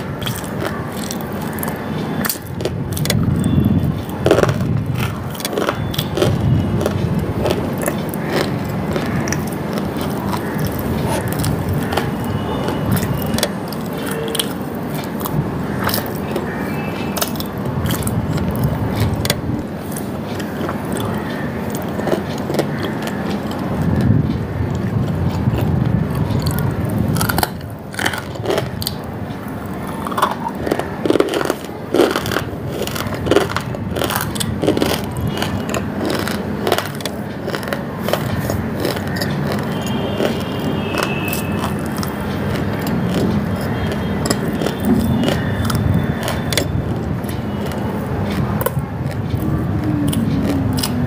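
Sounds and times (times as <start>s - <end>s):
mouth and handling noise: 0.0s - 51.0s
person chewing crunchy food: 0.0s - 51.0s.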